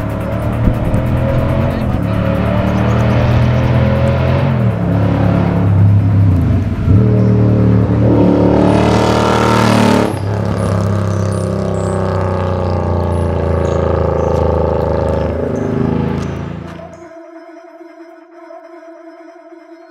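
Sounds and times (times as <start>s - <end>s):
motorcycle engine revving: 0.0s - 17.1s.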